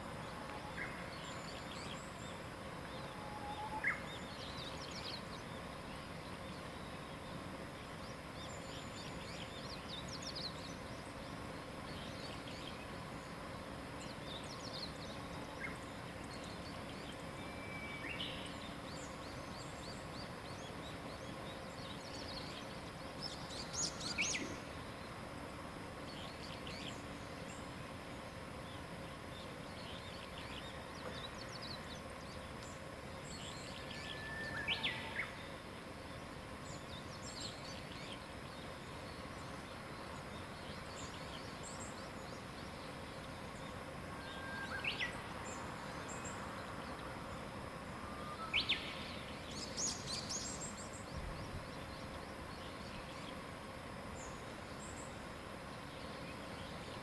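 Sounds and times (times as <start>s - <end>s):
background hiss: 0.0s - 57.0s
songbirds chirping: 0.0s - 57.0s.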